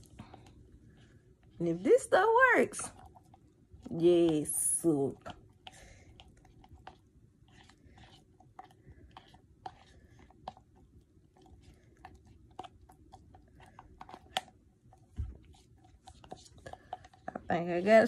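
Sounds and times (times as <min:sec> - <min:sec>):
spoon stirring sticky grease: 0:01.5 - 0:18.0.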